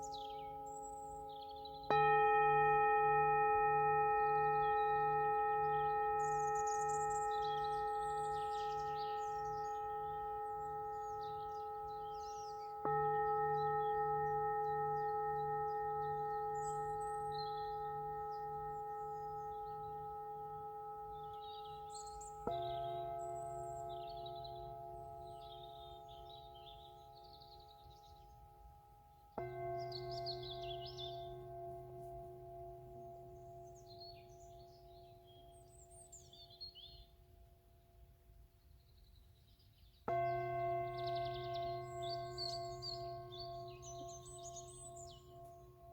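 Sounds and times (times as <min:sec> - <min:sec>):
singing bowl ringing: 0:00.0 - 0:36.7, 0:40.1 - 0:45.9
faint birds chirping: 0:03.7 - 0:37.2, 0:38.6 - 0:45.9.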